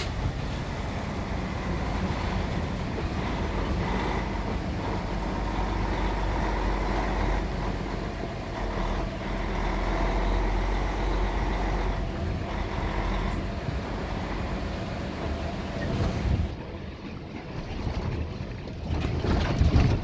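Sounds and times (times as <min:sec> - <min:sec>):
road noise: 0:00.0 - 0:20.0
truck engine rumble: 0:00.0 - 0:20.0.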